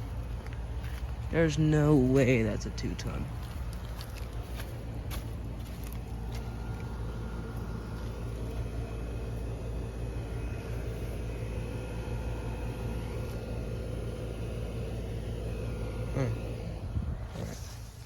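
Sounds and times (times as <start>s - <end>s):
condensing unit compressor hum: 0.0s - 18.0s.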